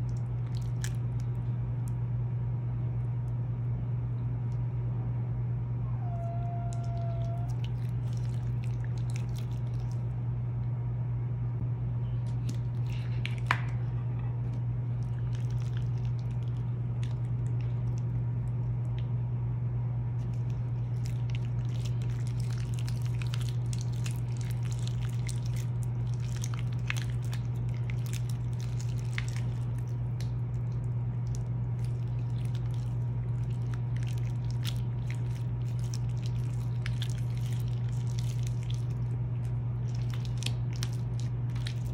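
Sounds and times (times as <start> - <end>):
slime squishing: 0.0 - 2.0, 6.0 - 10.2, 12.2 - 19.1, 20.2 - 41.9
low hum: 0.0 - 41.9.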